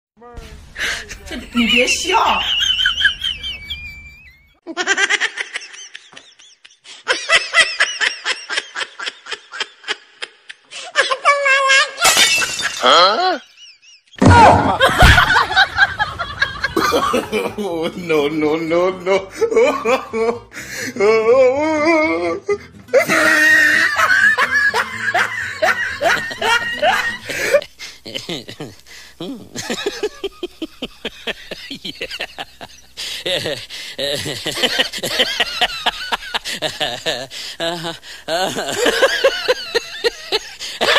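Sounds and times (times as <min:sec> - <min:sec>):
person laughing: 0:00.8 - 0:11.3, 0:12.3 - 0:17.8, 0:19.1 - 0:40.9.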